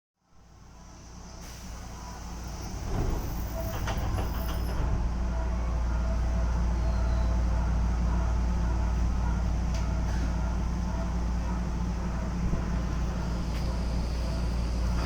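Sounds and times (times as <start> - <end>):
electric train rumble: 0.4 - 15.0.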